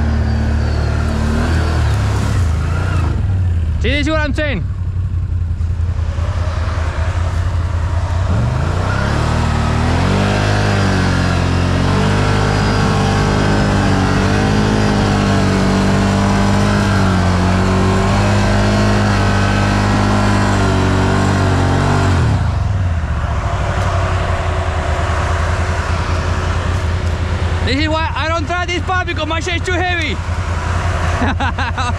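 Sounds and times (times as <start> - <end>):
atv engine revving: 0.0 - 31.9.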